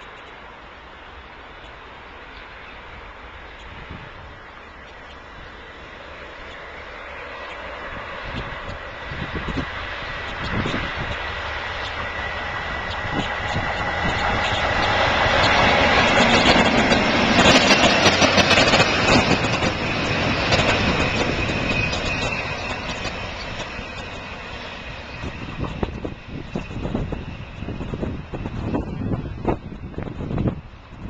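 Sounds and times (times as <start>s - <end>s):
diesel locomotives passing: 0.0s - 31.0s.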